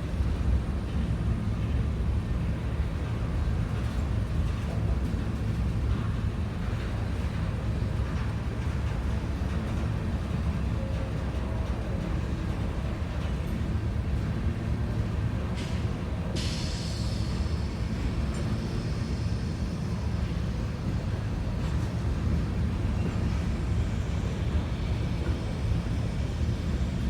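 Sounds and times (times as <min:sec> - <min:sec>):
freight train rolling past: 0:00.0 - 0:27.0.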